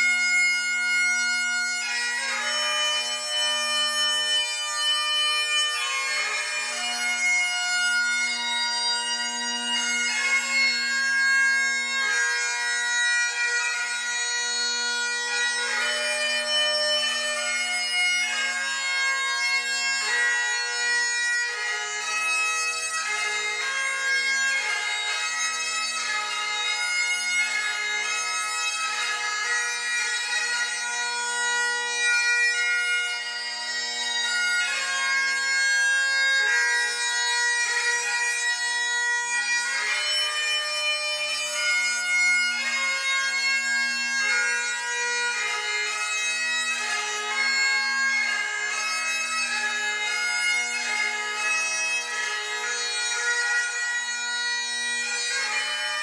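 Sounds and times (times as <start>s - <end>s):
bagpipe chanter melody: 0.0s - 56.0s
bagpipe drones: 0.0s - 56.0s.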